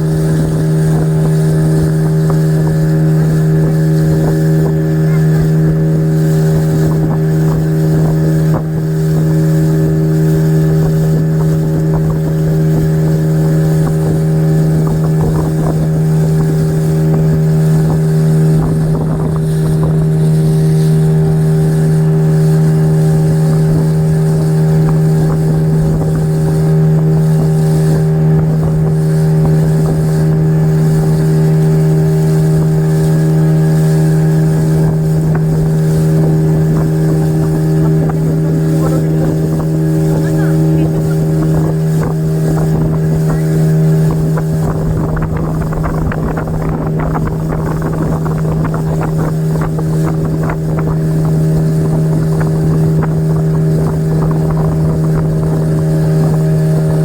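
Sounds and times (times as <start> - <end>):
speedboat engine running: 0.0 - 57.0.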